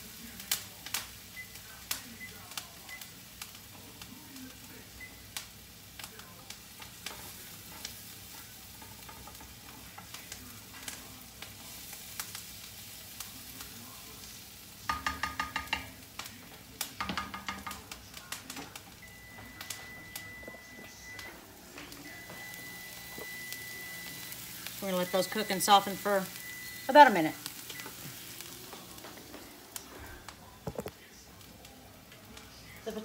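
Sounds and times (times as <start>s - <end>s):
food sizzling in oil: 0.0s - 33.0s
pan being stirred: 6.0s - 33.0s.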